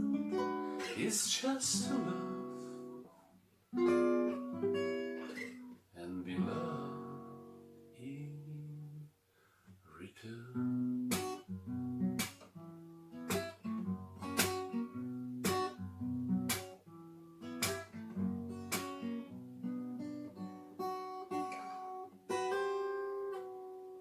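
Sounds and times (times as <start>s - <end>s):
acoustic guitar slow chords: 0.0s - 9.1s, 9.9s - 24.0s.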